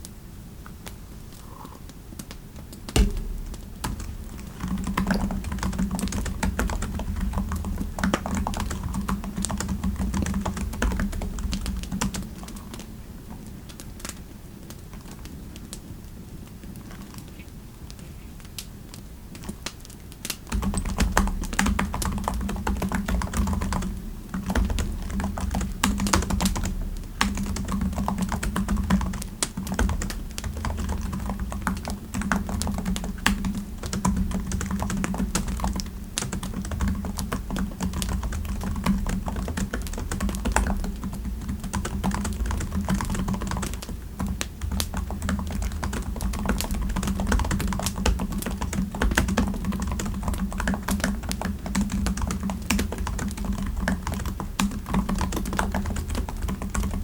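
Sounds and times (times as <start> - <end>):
computer keyboard typing: 2.9 - 12.9, 20.5 - 57.0.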